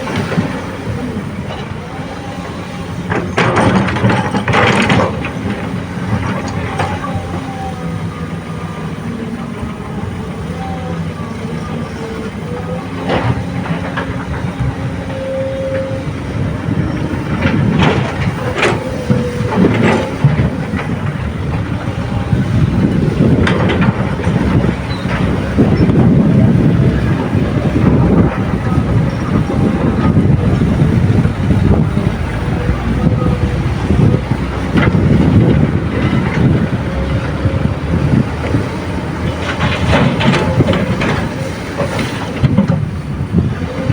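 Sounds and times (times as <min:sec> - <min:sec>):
knocks and rattling of rocky soil: 0:00.0 - 0:07.9, 0:11.6 - 0:43.9
excavator diesel engine running: 0:00.0 - 0:43.9.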